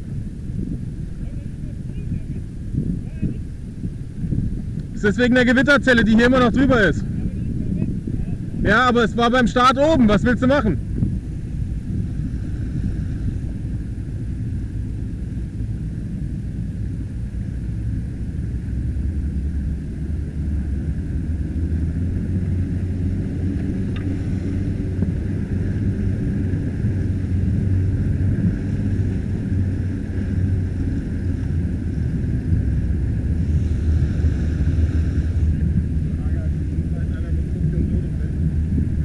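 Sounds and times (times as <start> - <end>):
motorboat engine droning: 0.0 - 39.0
water noise: 0.0 - 39.0.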